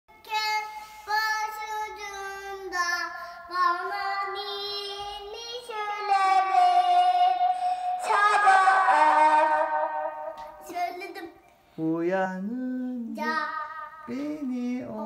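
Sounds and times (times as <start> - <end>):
boy singing long notes: 1.2 - 15.0.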